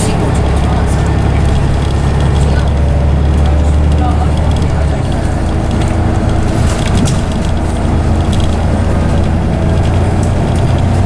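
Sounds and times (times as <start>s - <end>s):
bodywork clicks and rattles: 0.0s - 11.0s
bus diesel engine running: 0.0s - 11.0s.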